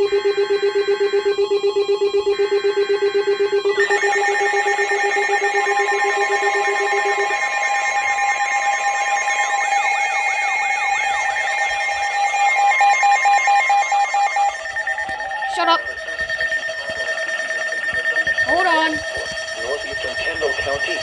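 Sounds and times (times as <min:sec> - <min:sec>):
fast-pulsing low beep: 0:00.0 - 0:21.0
steady high alert tones: 0:00.0 - 0:21.0
wavering siren-like warble: 0:00.0 - 0:21.0.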